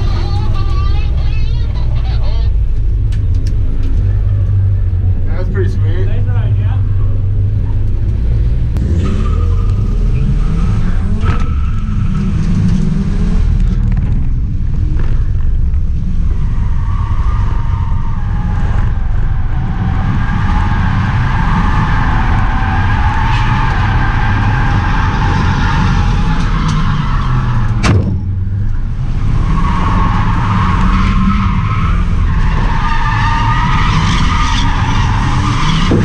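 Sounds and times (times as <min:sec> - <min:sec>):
car engine running hard: 0:00.0 - 0:36.0.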